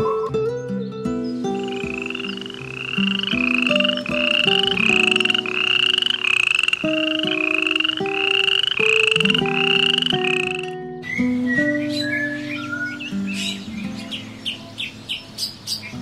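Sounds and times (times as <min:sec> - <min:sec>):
background music low notes: 0:00.0 - 0:16.0
animal high trill call: 0:01.6 - 0:15.5.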